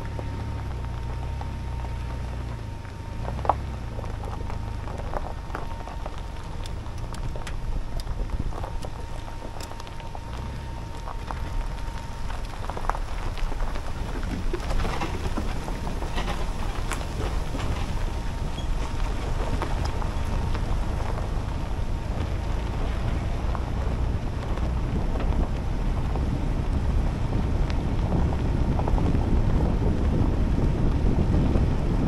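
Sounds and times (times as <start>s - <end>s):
crackling noise: 0.0s - 32.0s
truck engine rumbling: 0.0s - 32.0s.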